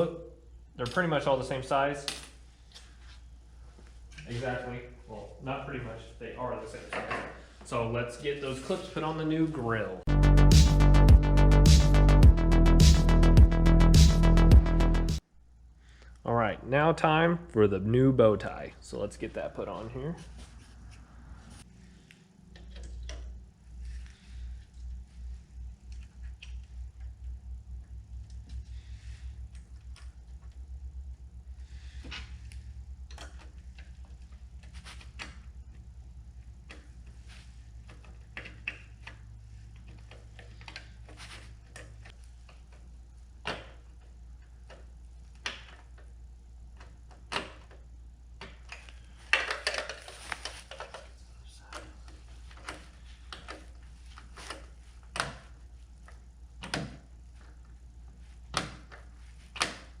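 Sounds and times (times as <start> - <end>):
low steady hum: 0.0 - 60.0.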